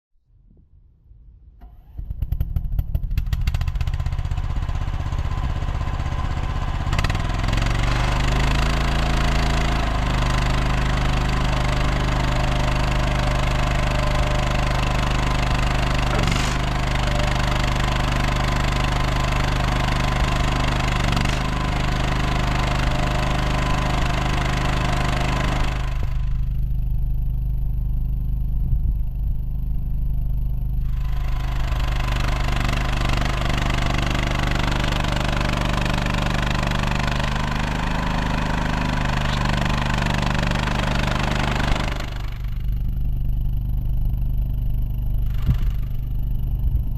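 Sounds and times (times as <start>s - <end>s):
mini skid steer engine running: 1.9s - 46.9s
high-pitched mechanical noise: 3.8s - 46.9s.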